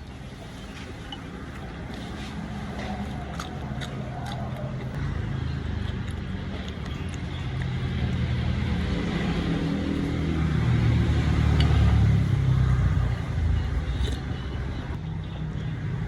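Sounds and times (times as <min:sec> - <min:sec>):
vehicle engine passing by: 0:01.8 - 0:14.9.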